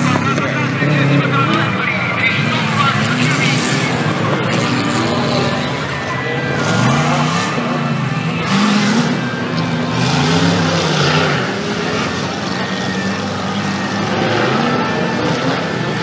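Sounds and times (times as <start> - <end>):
off-road vehicle engines revving: 0.0 - 16.0.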